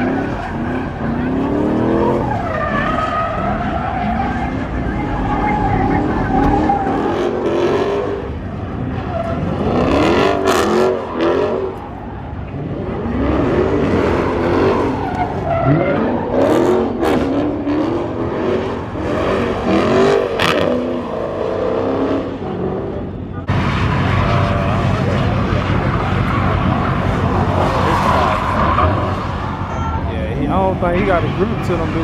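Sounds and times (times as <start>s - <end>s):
car engine revving: 0.0s - 32.0s
tyres spinning and squealing: 0.0s - 32.0s.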